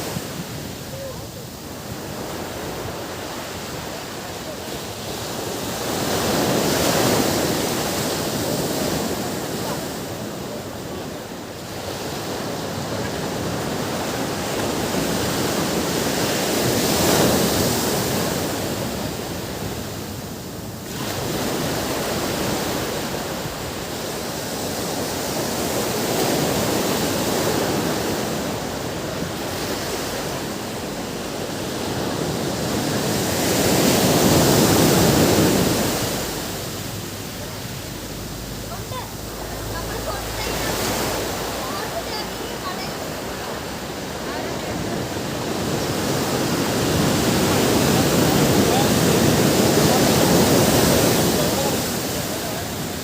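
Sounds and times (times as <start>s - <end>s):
ocean surf washing onto beach: 0.0s - 53.0s.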